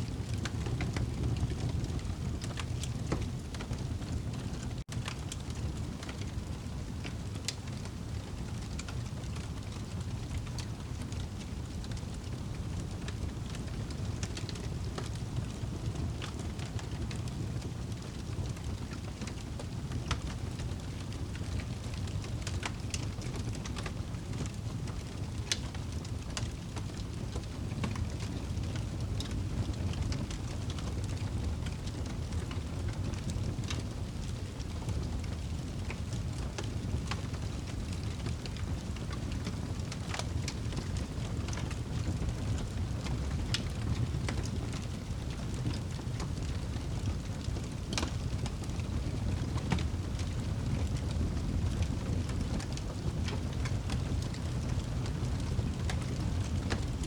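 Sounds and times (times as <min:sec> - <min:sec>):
low rumble of flames: 0:00.0 - 0:57.0
logs crackling and popping: 0:00.1 - 0:57.0.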